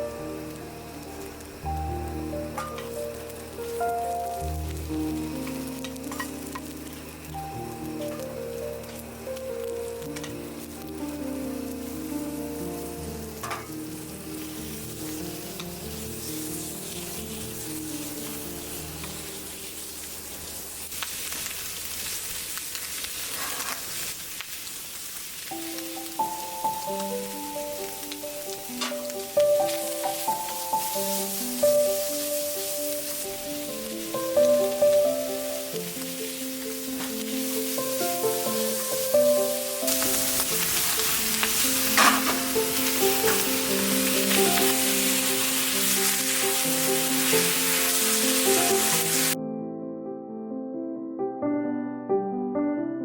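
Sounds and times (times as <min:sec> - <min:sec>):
background music: 0:00.0 - 0:19.6, 0:25.5 - 0:52.9
food sizzling in a pan: 0:00.0 - 0:49.4.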